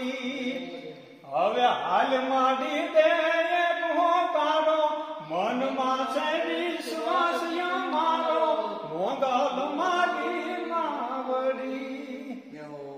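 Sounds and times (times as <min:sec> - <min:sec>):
man singing chant: 0:00.0 - 0:12.9.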